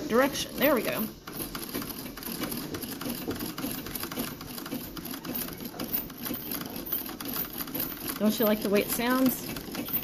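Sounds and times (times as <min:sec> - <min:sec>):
treadle sewing machine clicking: 0:00.0 - 0:10.0.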